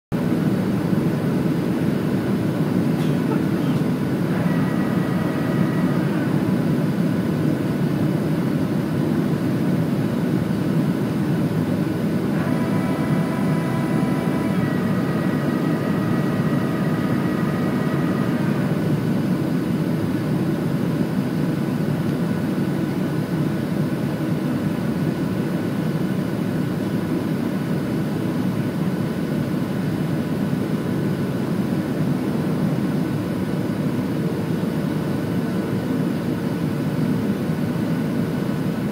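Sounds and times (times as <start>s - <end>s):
airflow rushing in plane cabin: 0.1s - 38.9s
jet engines: 0.1s - 38.9s
high whine of steady tones: 0.2s - 38.9s.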